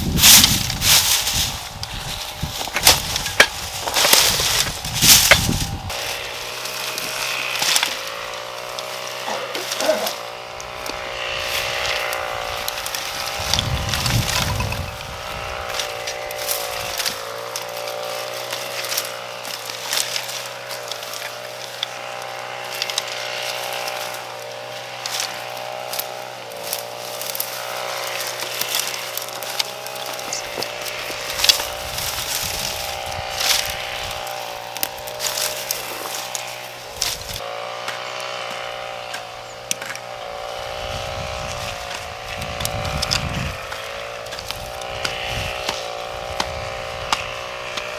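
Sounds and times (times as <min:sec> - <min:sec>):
motor-like hum: 0:00.0 - 0:47.9.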